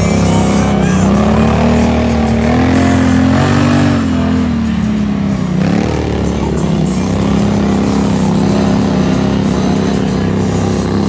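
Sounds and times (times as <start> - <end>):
quad engine running hard: 0.0 - 11.0.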